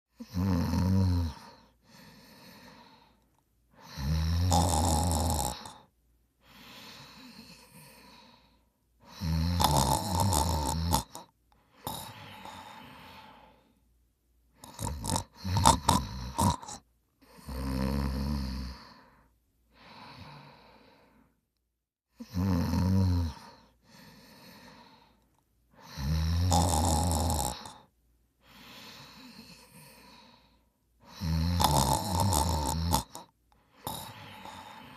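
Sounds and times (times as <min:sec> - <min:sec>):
person snoring: 0:00.1 - 0:03.2, 0:03.8 - 0:13.8, 0:14.6 - 0:21.3, 0:22.2 - 0:25.2, 0:25.8 - 0:34.9.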